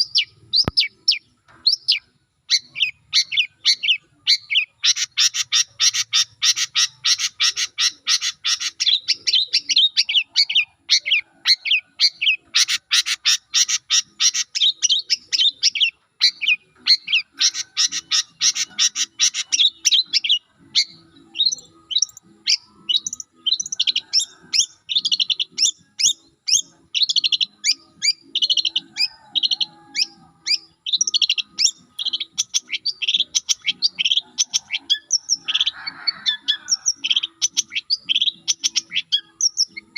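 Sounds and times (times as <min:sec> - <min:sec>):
shrike fast chattering song: 0:00.0 - 0:39.9.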